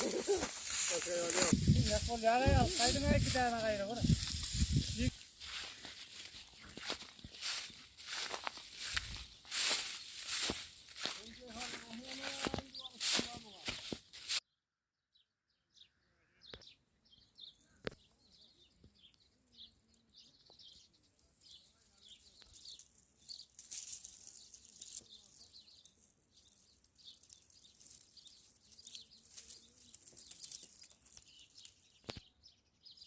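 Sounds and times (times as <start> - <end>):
small birds chirping: 0.0 - 14.4, 15.5 - 33.0.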